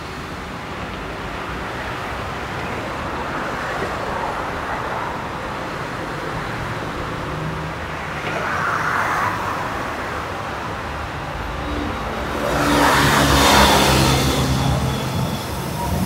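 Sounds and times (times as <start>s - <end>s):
train rolling on tracks: 0.0s - 16.0s.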